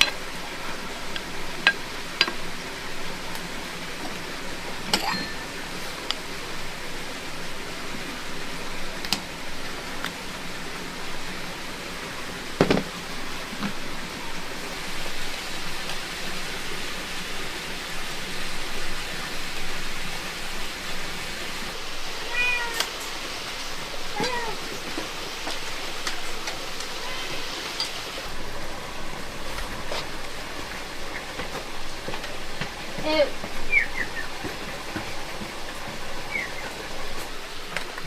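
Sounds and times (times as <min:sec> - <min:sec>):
heavy rain hissing: 0:00.0 - 0:38.0.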